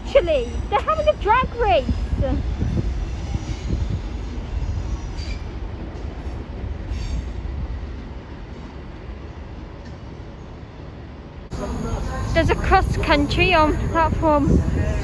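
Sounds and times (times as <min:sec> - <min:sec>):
train engine and rail rumble: 0:00.0 - 0:15.0.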